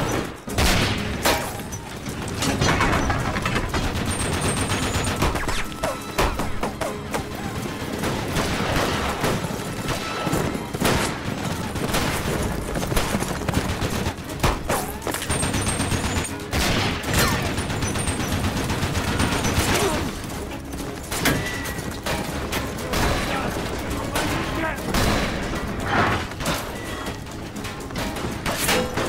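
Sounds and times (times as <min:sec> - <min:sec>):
gatling gun firing in rapid runs: 0:00.0 - 0:27.3
many guns firing: 0:00.0 - 0:29.0.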